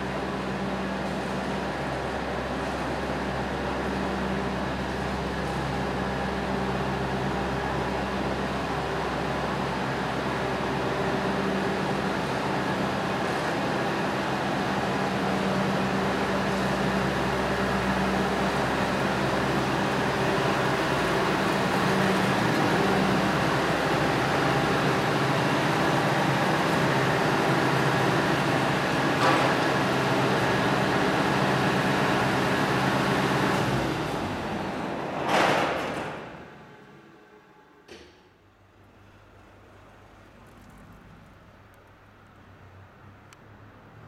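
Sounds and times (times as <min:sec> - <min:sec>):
diesel engine running: 0:00.0 - 0:37.1.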